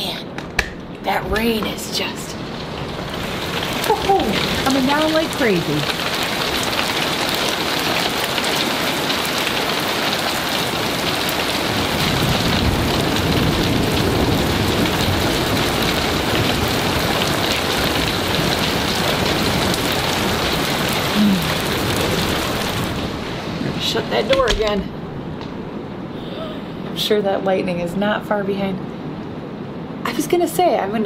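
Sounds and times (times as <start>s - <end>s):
thunder rumbling: 0.0s - 30.1s
heavy rain pouring: 0.0s - 31.0s.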